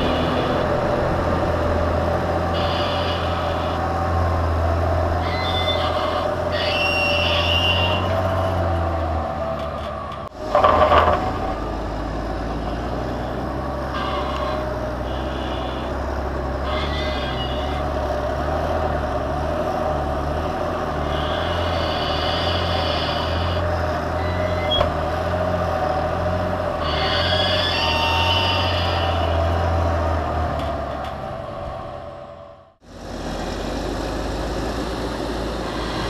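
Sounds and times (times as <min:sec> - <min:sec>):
higher engine whine: 0:00.0 - 0:36.0
tractor engines droning: 0:00.0 - 0:36.0.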